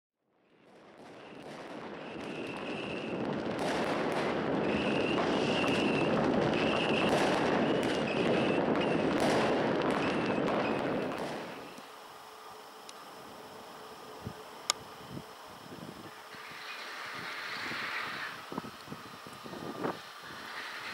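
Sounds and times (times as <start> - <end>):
fireworks crackling and banging: 0.4 - 20.9
firework whistles: 0.5 - 20.9.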